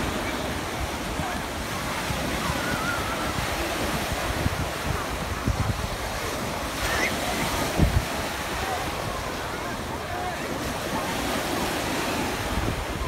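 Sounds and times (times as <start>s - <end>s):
surf breaking on a sandy beach: 0.0s - 13.0s
wind buffeting the microphone: 0.0s - 13.0s.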